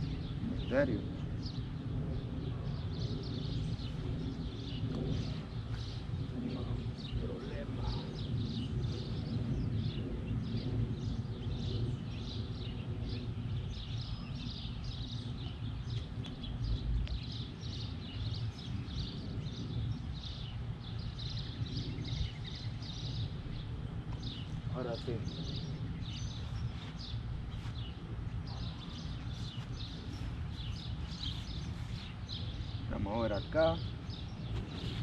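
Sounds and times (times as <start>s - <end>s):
birds chirping: 0.0s - 35.0s
low outdoor rumble: 0.0s - 35.0s.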